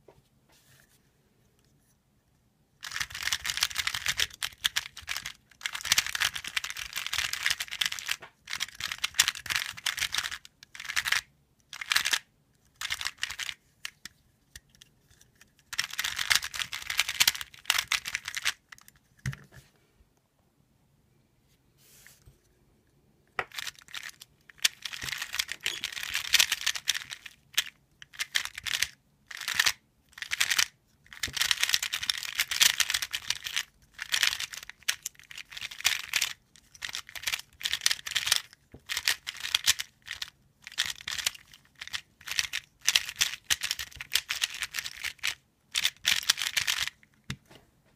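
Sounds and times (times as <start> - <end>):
plastic puzzle cube clicking: 2.8 - 19.4, 23.4 - 47.4.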